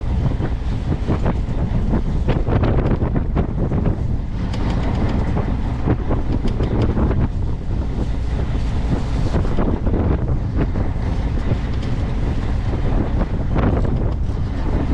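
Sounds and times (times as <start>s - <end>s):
boat engine rumble: 0.0s - 14.9s
wind buffeting microphone: 0.0s - 14.9s.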